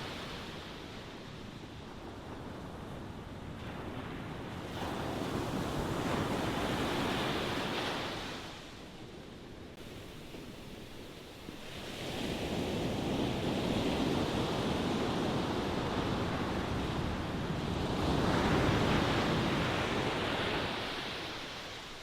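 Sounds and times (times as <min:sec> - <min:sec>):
ocean waves breaking and washing: 0:00.0 - 0:22.0.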